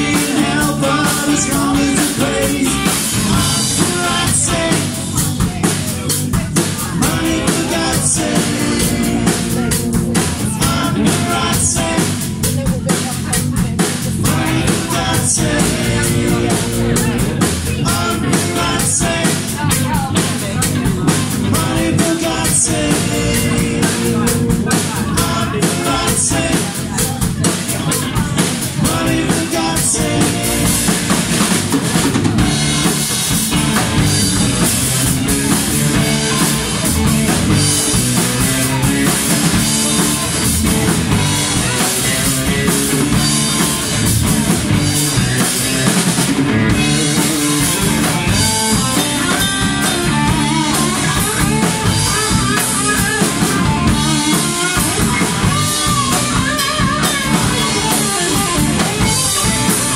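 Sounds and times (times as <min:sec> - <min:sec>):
bass drum and snare: 0:00.0 - 0:59.9
rock band playing: 0:00.0 - 0:59.9.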